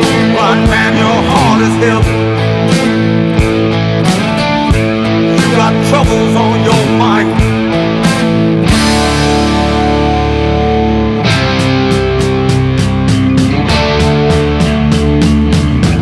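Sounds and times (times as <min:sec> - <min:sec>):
rock guitar: 0:00.0 - 0:16.0
steady drum beat: 0:00.0 - 0:16.0.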